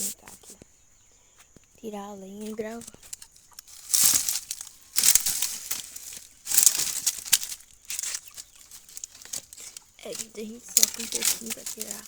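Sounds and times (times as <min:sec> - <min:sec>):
dry branches crackling and scraping: 0:01.5 - 0:12.0.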